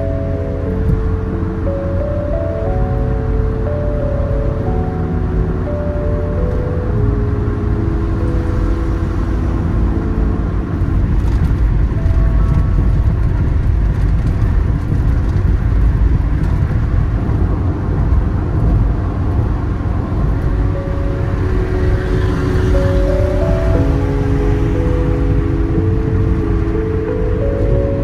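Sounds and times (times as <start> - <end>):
car interior road rumble: 0.0 - 28.0.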